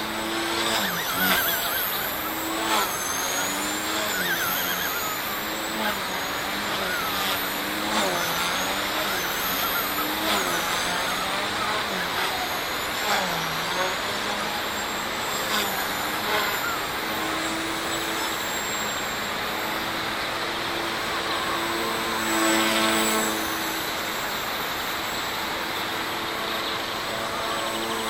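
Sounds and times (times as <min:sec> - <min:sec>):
rc helicopter rotors whining: 0:00.0 - 0:28.0
steady noisy hiss: 0:00.0 - 0:28.0.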